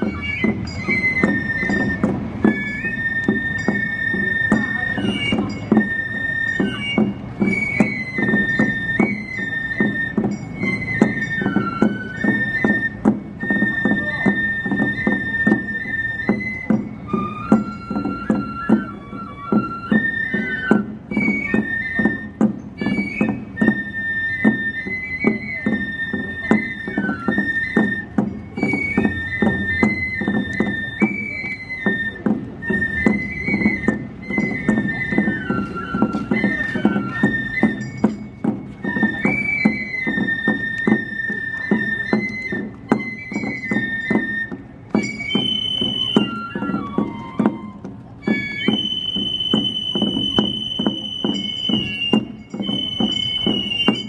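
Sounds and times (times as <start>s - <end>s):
high wind instrument melody: 0.0s - 54.0s
rapid percussion strokes: 0.0s - 54.0s.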